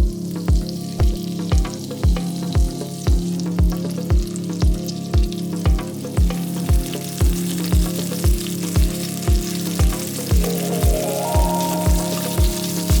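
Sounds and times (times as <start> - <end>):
food sizzling in a frying pan: 0.0 - 13.0
music with thumping beat: 0.0 - 13.0.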